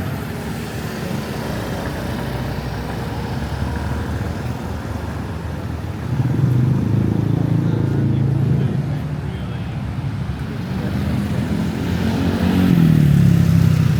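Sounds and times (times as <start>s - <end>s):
vehicle approaching: 0.0s - 9.2s, 10.3s - 13.9s
street traffic: 0.0s - 13.9s.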